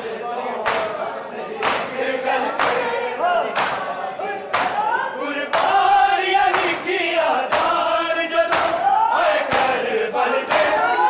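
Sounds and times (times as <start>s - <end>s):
men chanting a lament: 0.0s - 11.0s
men striking chests in unison: 0.6s - 11.0s.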